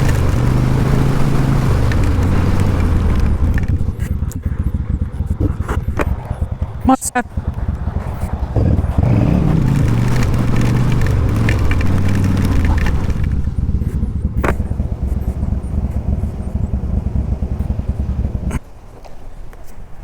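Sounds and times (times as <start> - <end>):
motorcycle engine running: 0.0 - 18.7.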